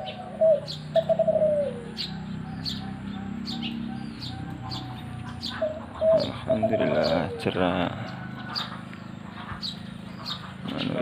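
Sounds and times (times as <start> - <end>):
dove cooing: 0.0 - 11.0
small birds chirping: 0.0 - 11.0.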